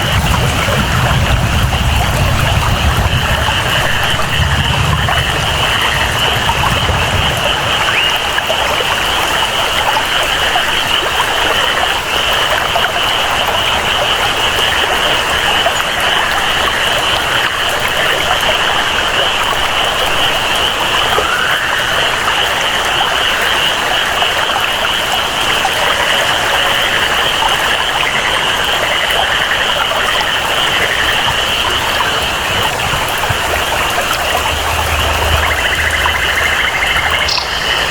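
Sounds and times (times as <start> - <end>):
frogs and insects calling: 0.0 - 37.9
running water: 0.0 - 37.9
steady rain: 0.0 - 37.9.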